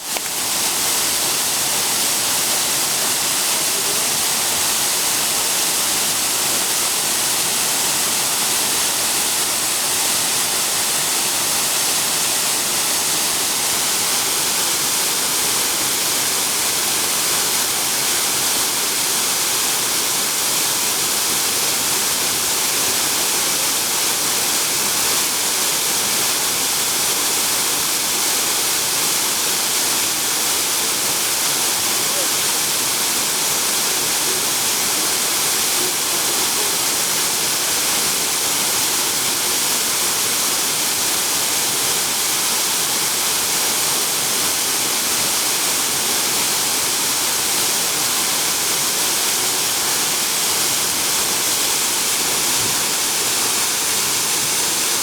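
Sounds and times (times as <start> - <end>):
waterfall pouring: 0.0 - 55.0.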